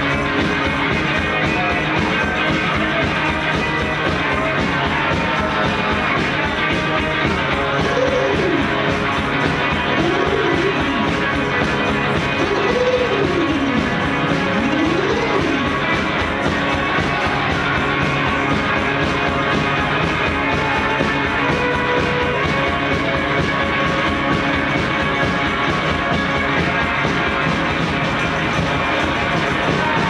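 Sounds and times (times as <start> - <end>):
driving drum beat: 0.0 - 30.0
electric guitar: 0.0 - 30.0.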